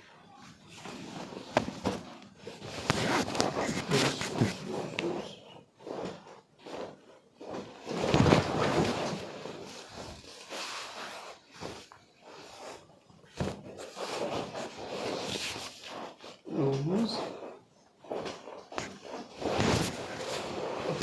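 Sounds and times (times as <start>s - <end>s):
rustling and handling noise: 0.0s - 21.0s.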